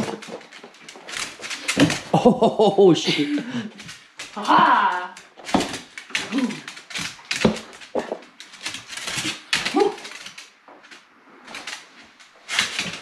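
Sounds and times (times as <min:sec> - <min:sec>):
dog claws scrabbling on tiles: 0:00.0 - 0:02.3, 0:03.7 - 0:13.0.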